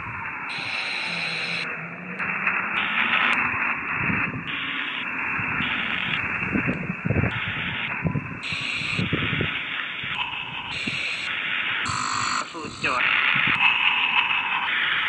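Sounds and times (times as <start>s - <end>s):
radio static hiss stepping: 0.0s - 15.0s
short radio fragments: 2.3s - 6.6s, 7.2s - 15.0s.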